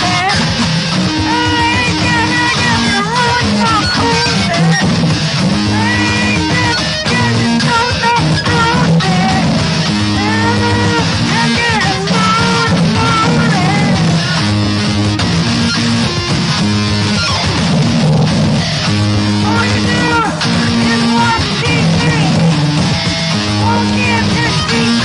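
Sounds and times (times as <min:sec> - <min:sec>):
gliding vocal or lead melody: 0:00.0 - 0:14.8, 0:18.2 - 0:25.0
bass line: 0:00.0 - 0:25.0
electric guitar: 0:00.0 - 0:25.0
rock music: 0:00.0 - 0:25.0.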